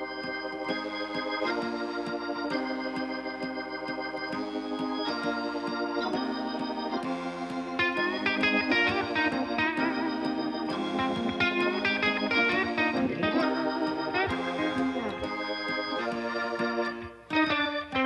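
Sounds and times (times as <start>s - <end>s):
held keyboard chords: 0.0s - 18.0s.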